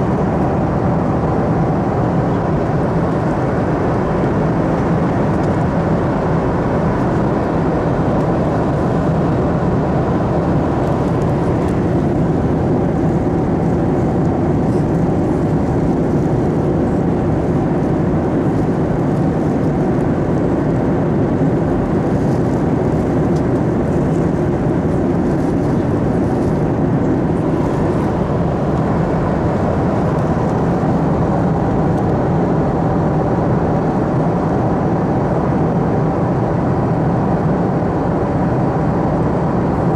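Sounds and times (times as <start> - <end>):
airplane cabin airflow and engines: 0.0 - 39.9.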